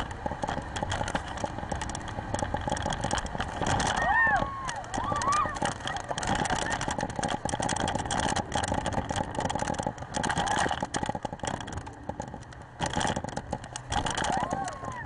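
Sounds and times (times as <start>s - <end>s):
motorboat engine: 0.0s - 15.0s
wind buffeting microphone: 0.0s - 15.0s.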